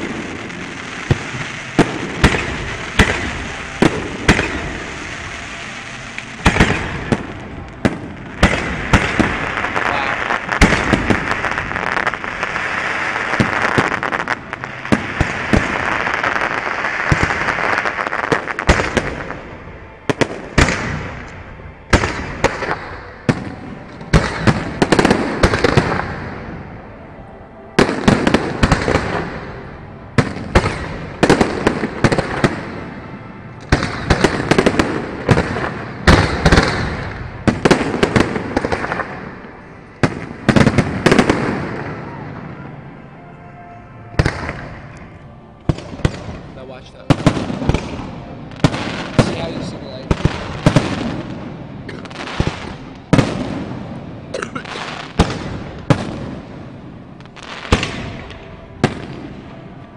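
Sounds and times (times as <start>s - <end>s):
fireworks bursting with sharp bangs: 0.0s - 27.0s, 27.7s - 43.3s, 44.1s - 59.9s
dense steady hiss: 0.0s - 59.9s.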